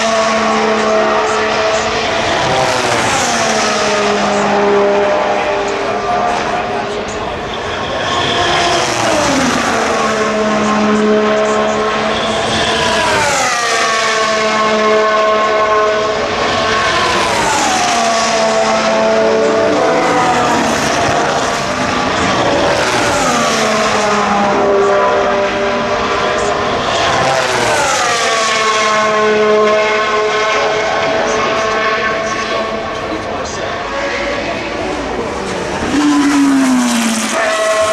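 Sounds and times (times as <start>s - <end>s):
racing cars passing at high revs: 0.0s - 37.9s.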